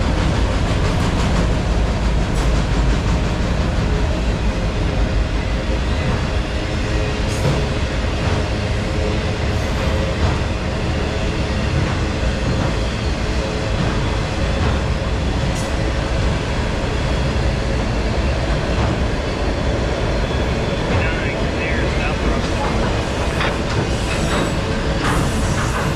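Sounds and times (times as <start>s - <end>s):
freight train rumble: 0.0s - 25.9s.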